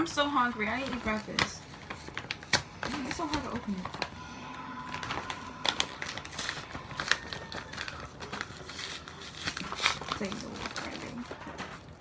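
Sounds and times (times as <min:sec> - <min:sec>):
packaging crinkling: 0:00.1 - 0:12.0.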